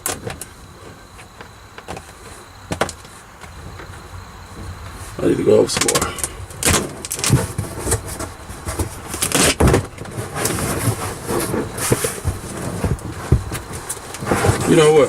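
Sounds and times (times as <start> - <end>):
sheets rustling and scraping: 0.0 - 15.0.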